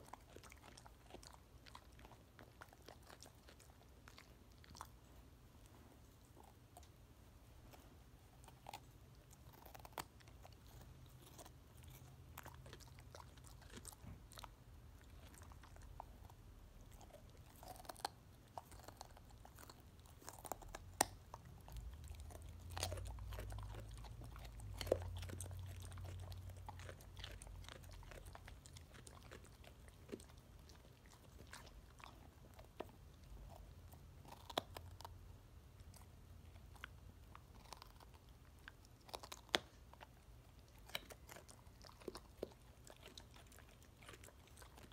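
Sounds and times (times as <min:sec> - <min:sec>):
dog chewing a carrot: 0:00.0 - 0:07.0, 0:07.6 - 0:44.9.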